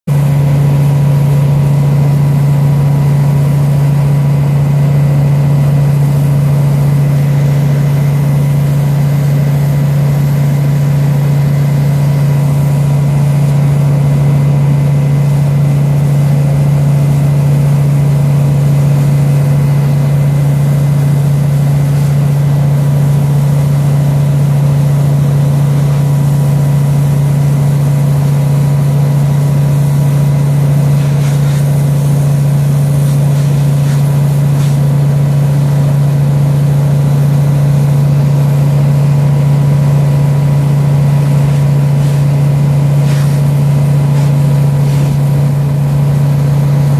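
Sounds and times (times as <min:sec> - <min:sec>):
low mechanical hum: 0:00.1 - 0:46.9.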